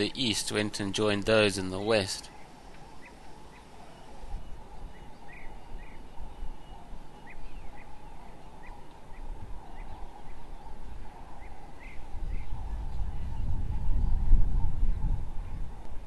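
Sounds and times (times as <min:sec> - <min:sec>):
bird chirping: 0:00.0 - 0:15.6.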